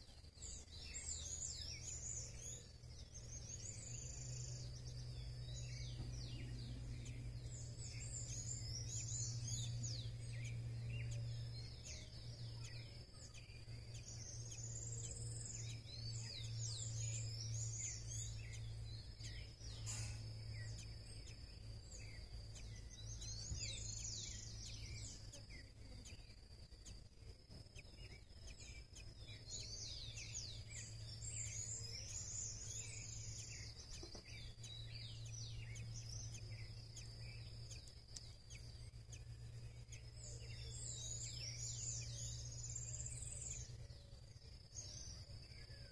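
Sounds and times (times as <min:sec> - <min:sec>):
low hum: 0:00.0 - 0:45.9
wild birds chirping: 0:00.0 - 0:45.9.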